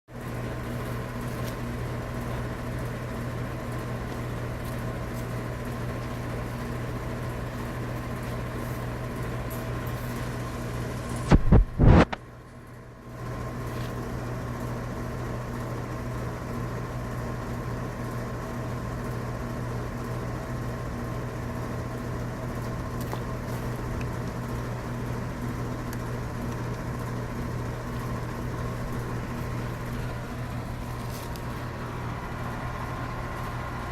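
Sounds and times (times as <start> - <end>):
mechanical hum: 0.1 - 33.9.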